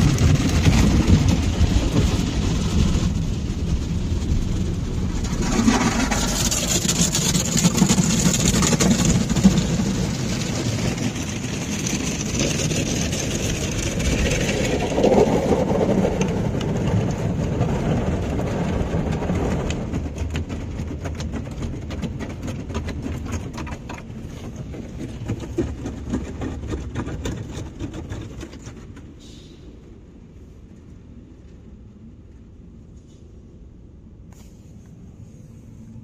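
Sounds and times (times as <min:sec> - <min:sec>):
car wash water rushing: 0:00.0 - 0:29.2.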